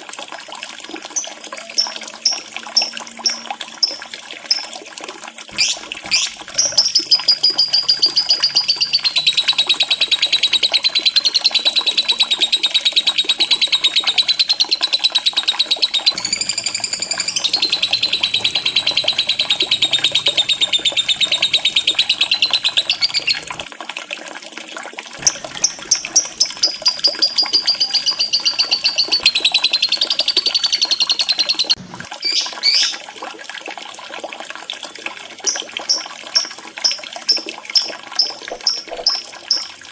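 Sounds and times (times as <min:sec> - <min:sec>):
lovebird rattling trill: 0:01.1 - 0:04.7, 0:05.5 - 0:23.6, 0:25.2 - 0:32.9, 0:35.5 - 0:39.7.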